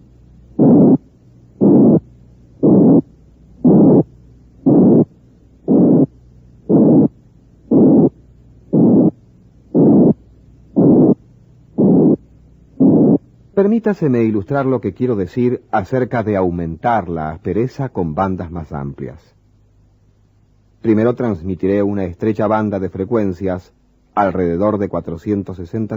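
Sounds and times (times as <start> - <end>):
harsh synthesized murmur hiss: 0.0 - 25.9.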